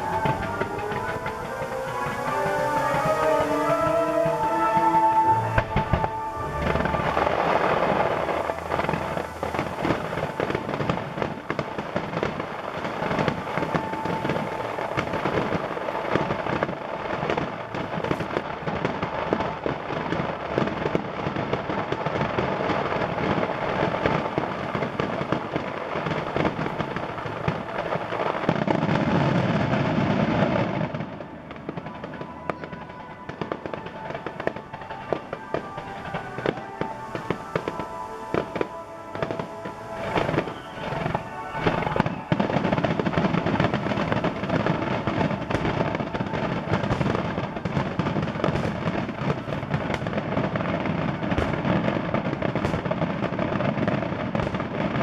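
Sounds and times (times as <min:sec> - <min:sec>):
fireworks booms: 0:00.0 - 0:55.0
fireworks crackling and popping: 0:00.0 - 0:55.0.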